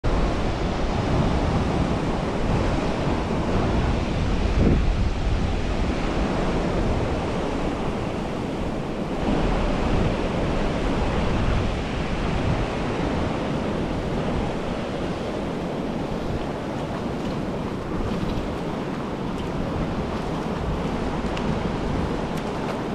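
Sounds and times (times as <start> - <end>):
wind buffeting microphone: 0.0 - 22.9
river water rushing over rocks: 0.1 - 22.9.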